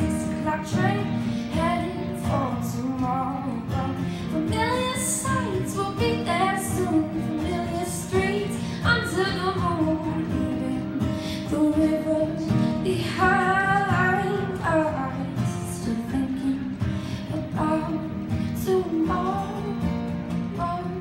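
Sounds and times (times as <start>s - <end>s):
acoustic guitar strumming: 0.0s - 21.0s
woman singing: 0.0s - 21.0s.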